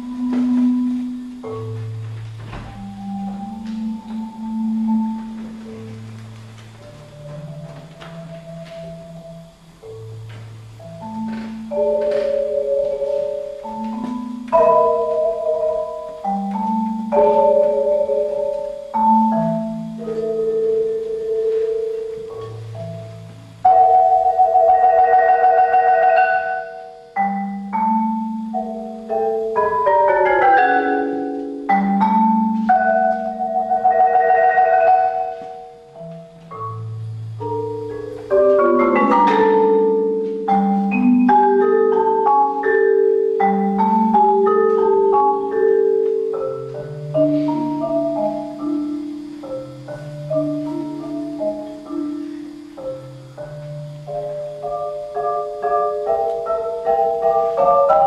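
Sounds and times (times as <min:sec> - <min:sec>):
marimba played with mallets: 0:00.0 - 0:58.0.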